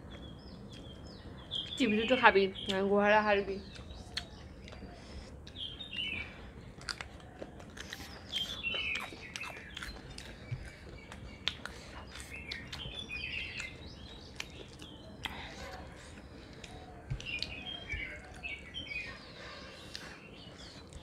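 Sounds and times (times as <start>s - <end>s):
chewing and fingers mixing rice: 0.0s - 1.8s, 3.6s - 21.0s
birds chirping: 0.0s - 21.0s.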